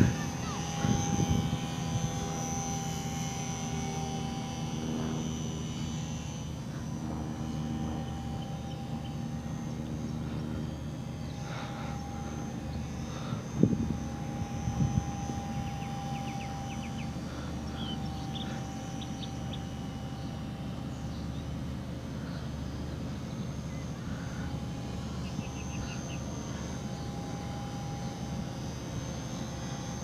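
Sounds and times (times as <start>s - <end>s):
model plane motor whining: 0.0s - 30.0s.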